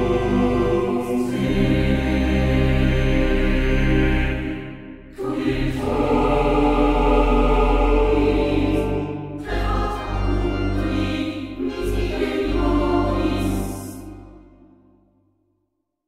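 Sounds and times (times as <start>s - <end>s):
choir singing long chords: 0.0s - 15.0s.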